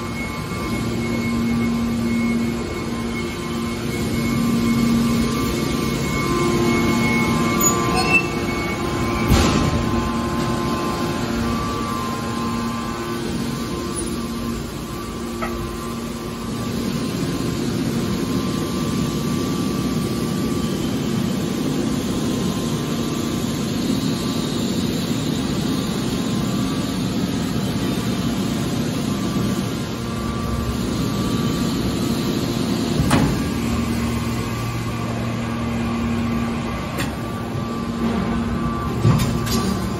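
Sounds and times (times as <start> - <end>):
hydraulic baler motor humming: 0.0 - 39.9.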